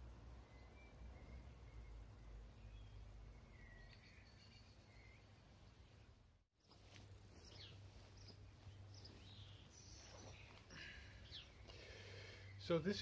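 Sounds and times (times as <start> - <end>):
distant bird chirps: 0.4 - 13.0.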